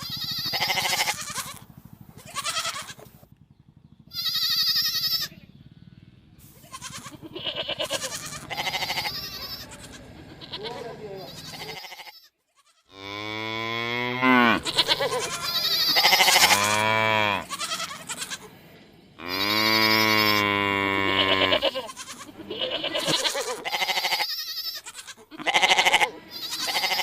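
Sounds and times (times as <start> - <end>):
wavering bleats: 0.0 - 3.2, 4.1 - 5.8, 6.4 - 27.0
long low animal calls: 0.0 - 12.1, 12.9 - 27.0.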